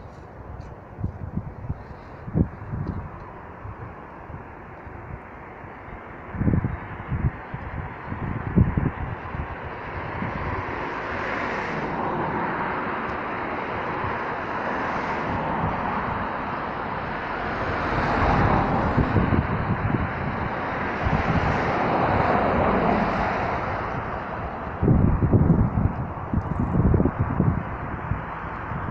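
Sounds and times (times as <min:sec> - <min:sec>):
road traffic: 0:00.0 - 0:28.9
vehicles passing by: 0:00.0 - 0:28.9
wind on microphone: 0:00.0 - 0:28.9.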